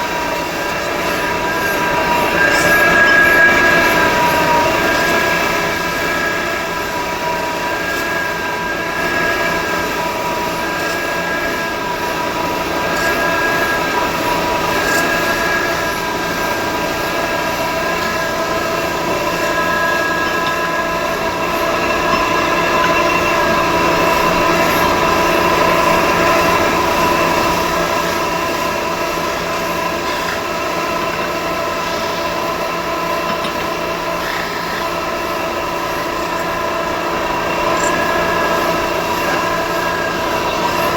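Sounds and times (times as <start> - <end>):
constant machine hum: 0.0 - 40.9
metallic squeal of lathe tool: 0.0 - 40.9.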